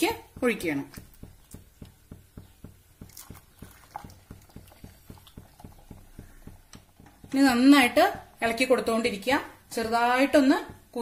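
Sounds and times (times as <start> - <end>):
milk bubbling in a pan: 0.0 - 8.9.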